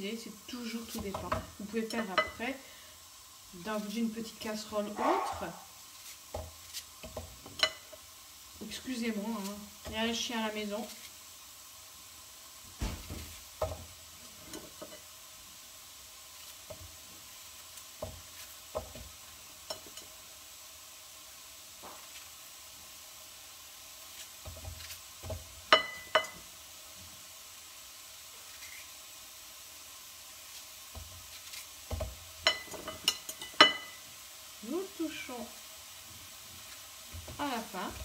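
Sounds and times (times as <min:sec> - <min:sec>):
apple pieces sizzling in a pan: 0:00.0 - 0:38.0.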